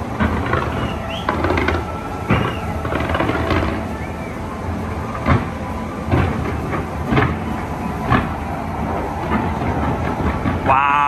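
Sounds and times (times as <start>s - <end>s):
fireworks bangs: 0.0s - 11.0s
fireworks rumble and crackle: 0.0s - 11.0s.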